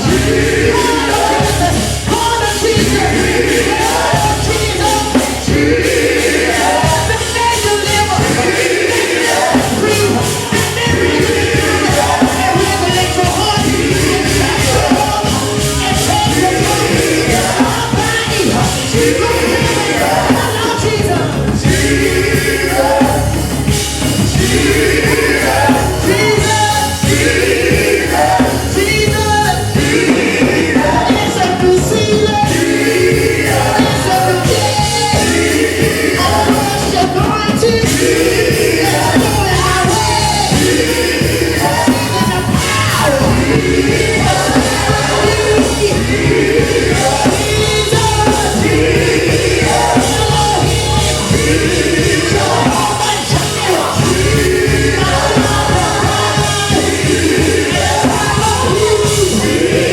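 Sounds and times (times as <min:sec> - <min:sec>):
gospel band playing: 0:00.0 - 0:59.9
people singing: 0:00.0 - 0:59.9.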